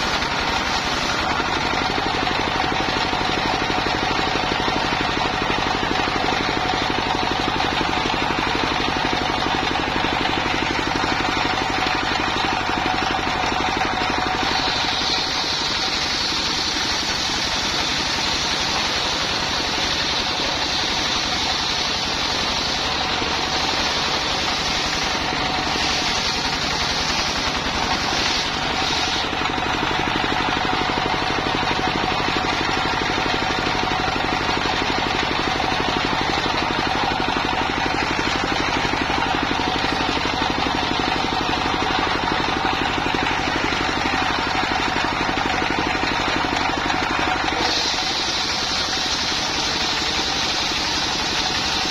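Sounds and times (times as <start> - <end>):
diesel engine running: 0.0 - 51.9
saw blade cutting log: 0.0 - 51.9.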